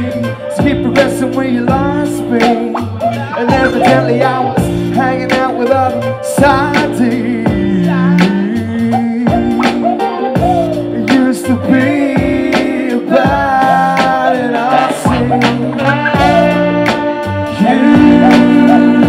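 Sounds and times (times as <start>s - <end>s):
live hip hop band playing: 0.0s - 19.0s.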